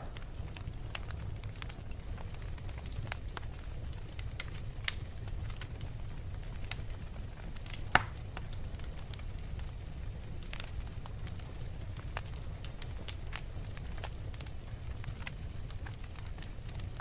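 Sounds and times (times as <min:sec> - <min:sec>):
burning logs crackling and popping: 0:00.0 - 0:17.0
fire rumbling in a fireplace: 0:00.0 - 0:17.0.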